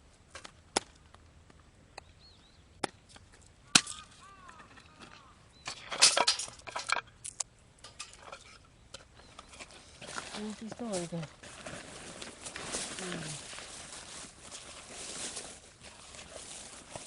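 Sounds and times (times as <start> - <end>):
sticks clattering and rattling: 3.1 - 17.0.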